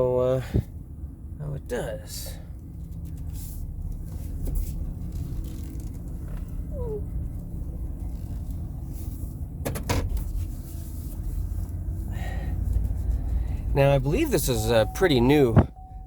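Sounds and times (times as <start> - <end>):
road rumble: 0.0 - 16.0
van engine running: 0.0 - 16.0.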